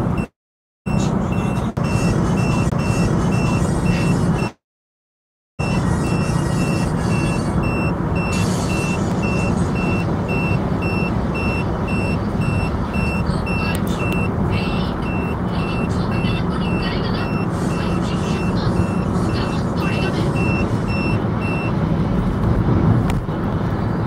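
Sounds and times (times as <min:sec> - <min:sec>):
engine and tyre noise: 0:00.0 - 0:00.3, 0:00.9 - 0:04.6, 0:05.6 - 0:24.0
speed limit alarm beeping: 0:00.9 - 0:04.6, 0:05.6 - 0:21.8.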